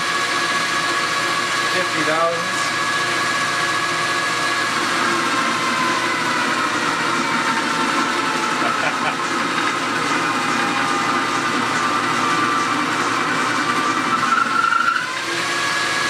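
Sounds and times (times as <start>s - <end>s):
metal lathe whining: 0.0s - 16.0s.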